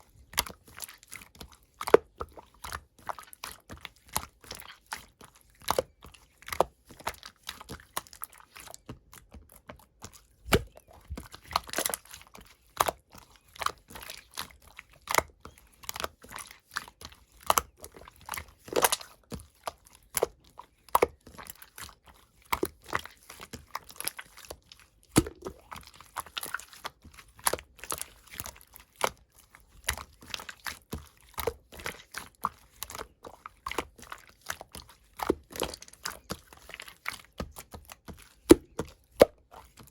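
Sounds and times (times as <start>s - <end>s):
slime squished by hand: 0.2s - 39.9s.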